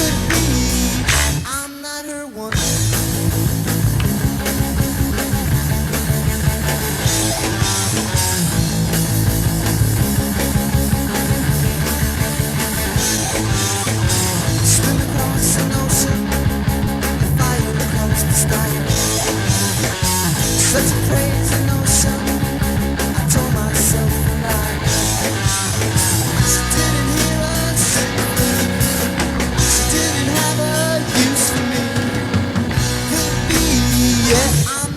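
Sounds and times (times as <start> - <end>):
rock band playing: 0.0 - 1.9, 2.5 - 34.9.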